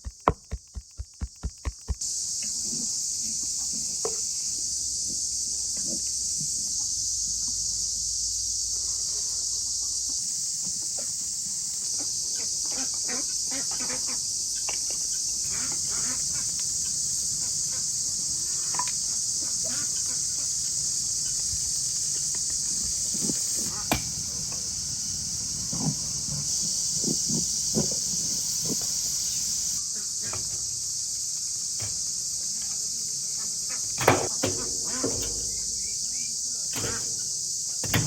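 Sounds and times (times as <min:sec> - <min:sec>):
high-pitched insect chorus: 0:00.0 - 0:38.0.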